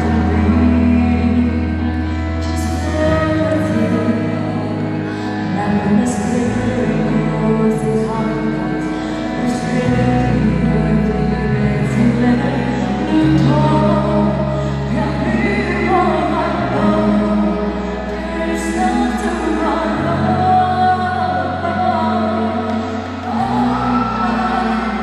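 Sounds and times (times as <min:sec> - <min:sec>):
amplified musical accompaniment: 0:00.0 - 0:25.0
man and woman singing duet: 0:00.0 - 0:25.0.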